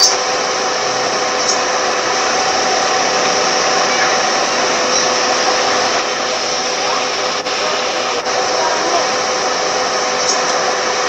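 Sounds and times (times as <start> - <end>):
car air conditioning fan: 0.0 - 11.0.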